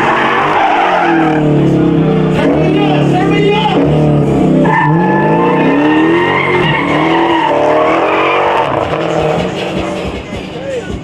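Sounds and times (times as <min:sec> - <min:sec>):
car engine revving: 0:00.0 - 0:11.0
tires squealing: 0:00.0 - 0:11.0.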